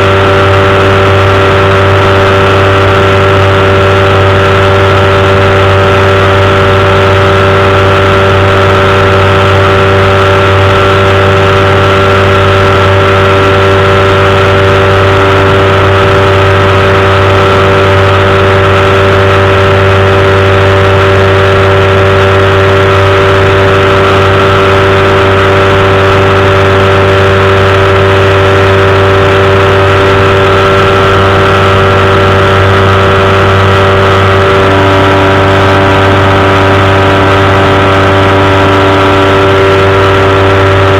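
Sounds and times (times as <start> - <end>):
engine and propeller running: 0.0 - 40.9.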